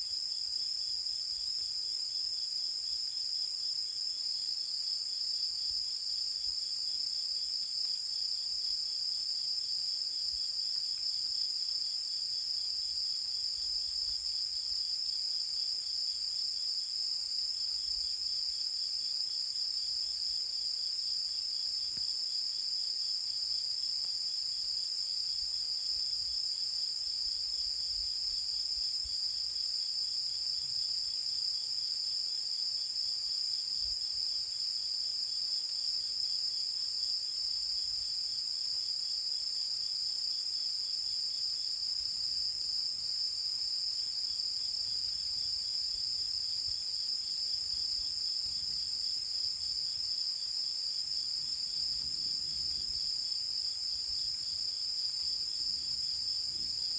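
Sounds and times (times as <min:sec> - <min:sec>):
rapidly pulsing insect song: 0:00.0 - 0:56.9.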